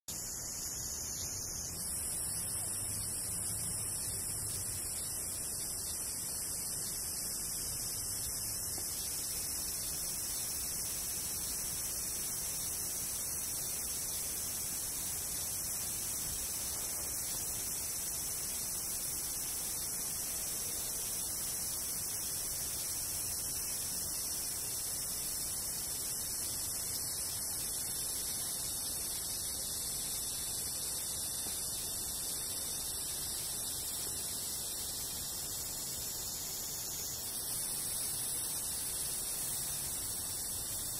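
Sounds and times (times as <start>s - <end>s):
cicada buzzing drone: 0.1s - 40.9s.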